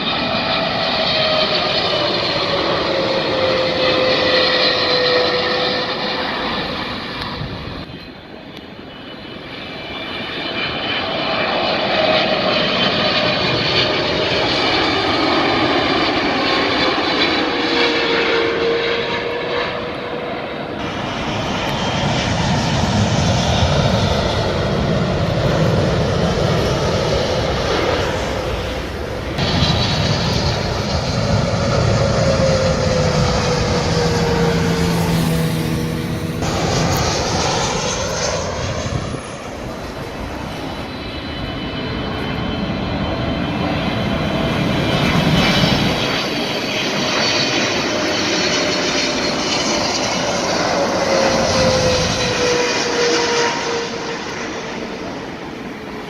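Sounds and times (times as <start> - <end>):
jet airliner engines whining: 0.0 - 56.0.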